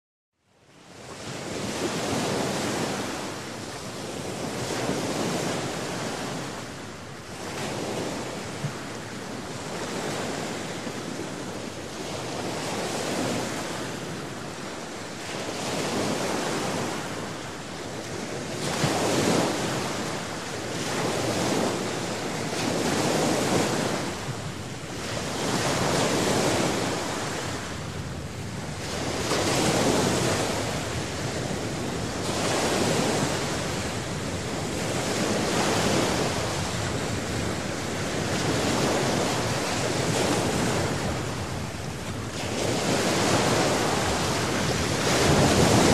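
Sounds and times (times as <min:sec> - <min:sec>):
sea waves breaking: 0:01.2 - 0:45.9.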